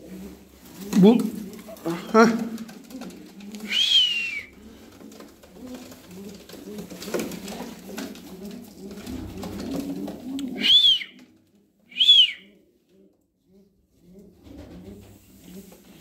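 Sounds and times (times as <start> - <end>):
pigeons cooing: 0.0 - 11.3, 11.9 - 16.0.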